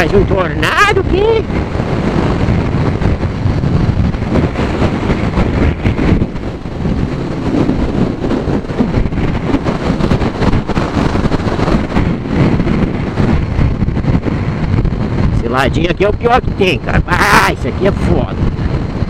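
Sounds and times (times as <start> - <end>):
motorcycle noise: 0.0 - 19.0
wind buffeting microphone: 0.0 - 19.0.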